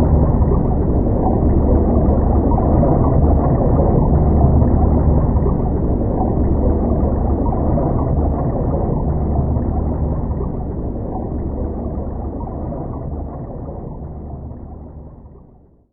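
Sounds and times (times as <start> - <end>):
faint water gurgle: 0.0 - 15.9
muffled underwater rumble: 0.0 - 15.9.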